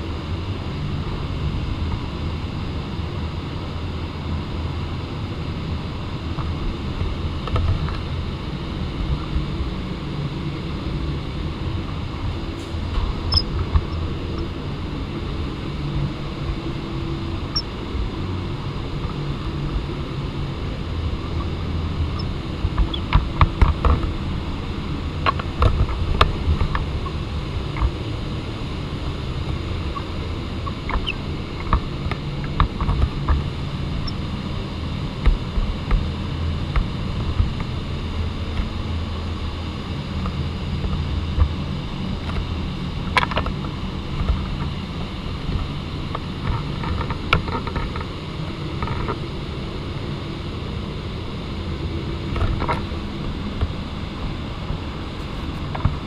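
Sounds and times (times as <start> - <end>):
motor humming: 3.4 - 56.0.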